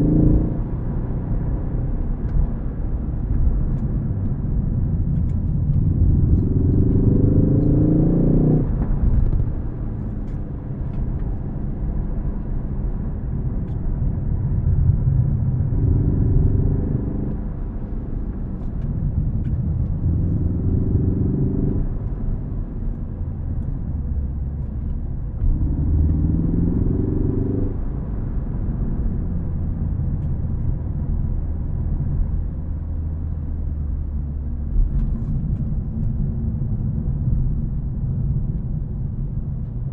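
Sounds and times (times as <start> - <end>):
road rumble: 0.0 - 39.9.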